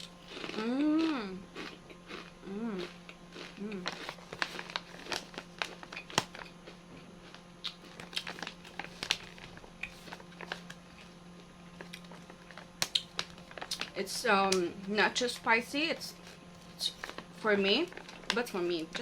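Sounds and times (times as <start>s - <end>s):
chewing crunchy chips: 0.0s - 19.0s
steady low hum: 0.0s - 19.0s.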